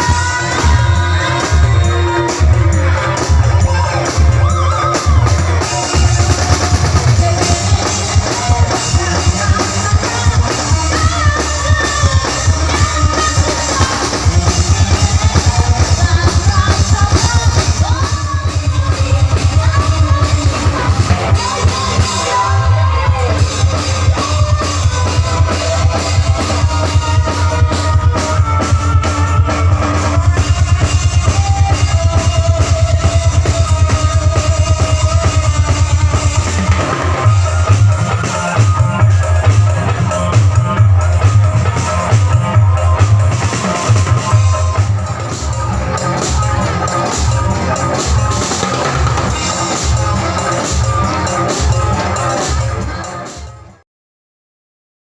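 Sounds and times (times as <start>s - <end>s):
loud dance music with singing: 0.0s - 53.8s.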